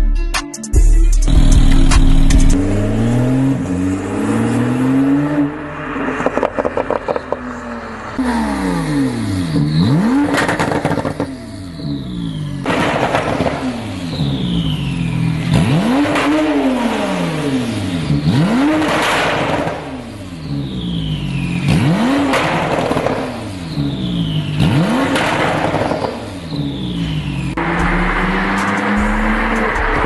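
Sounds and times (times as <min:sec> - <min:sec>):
car engine idling and revving: 0:01.1 - 0:30.0.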